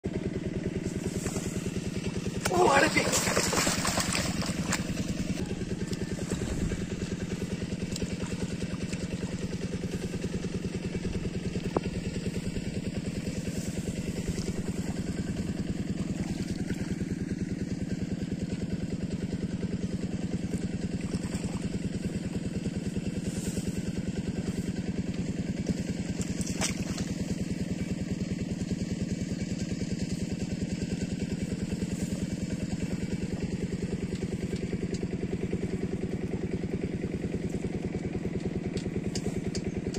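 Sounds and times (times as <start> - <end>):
small engine chugging: 0.1 - 39.9.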